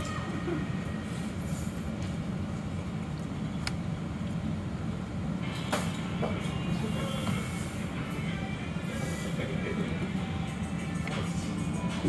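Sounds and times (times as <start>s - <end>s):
restaurant room noise: 0.0s - 12.0s.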